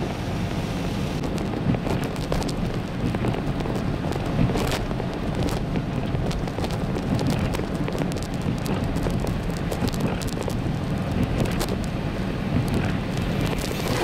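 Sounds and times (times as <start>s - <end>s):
freezing rain ticking on windshield: 0.0s - 14.0s
tyre and engine rumble: 0.0s - 14.0s.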